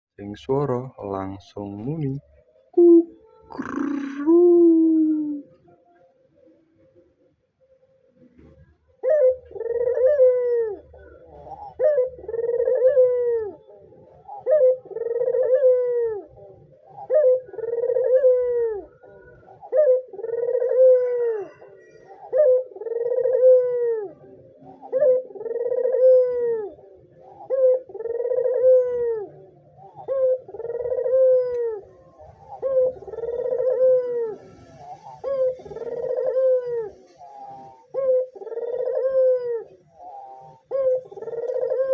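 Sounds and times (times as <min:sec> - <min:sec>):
dove cooing: 0:01.6 - 0:41.9.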